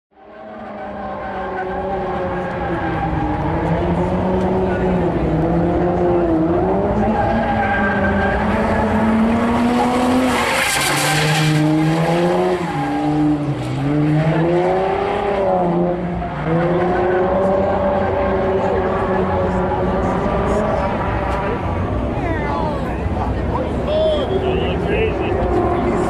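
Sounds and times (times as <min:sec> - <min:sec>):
car engines revving: 0:00.2 - 0:26.0.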